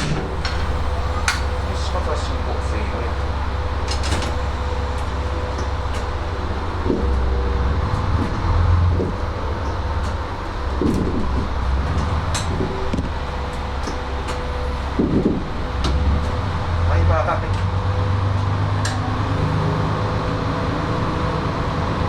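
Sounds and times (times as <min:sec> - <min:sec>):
railcar engine rumble: 0:00.0 - 0:22.0.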